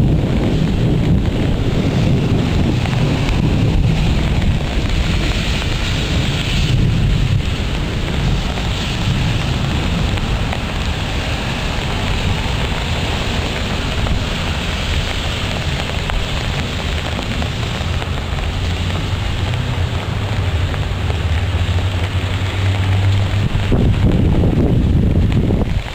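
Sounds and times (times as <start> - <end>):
rain pouring: 0.0 - 25.9
wind buffeting microphone: 0.0 - 25.9.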